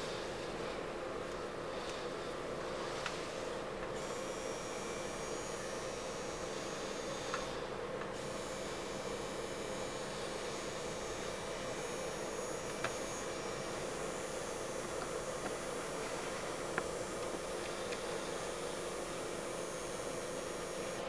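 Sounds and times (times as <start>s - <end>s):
tattoo machine motor whirring: 4.0s - 21.0s.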